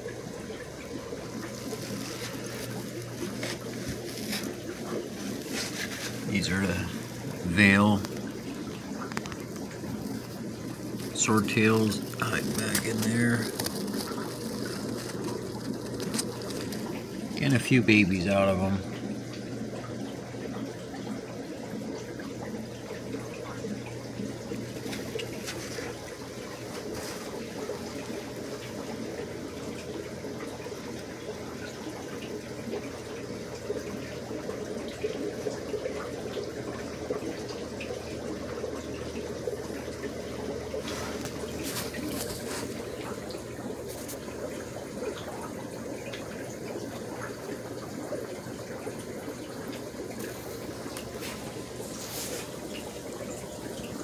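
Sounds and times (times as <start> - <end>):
low steady hum: 0.0 - 54.0
water bubbling and trickling: 0.0 - 54.0.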